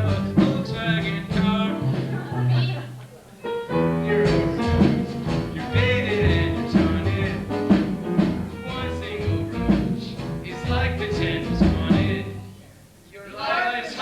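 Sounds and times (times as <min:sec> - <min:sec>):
stage show song with pulsing bass: 0:00.0 - 0:12.6.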